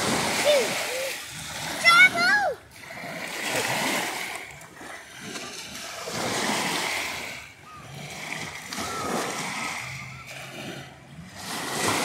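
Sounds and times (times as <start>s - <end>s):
small waves washing over sand: 0.0s - 12.0s.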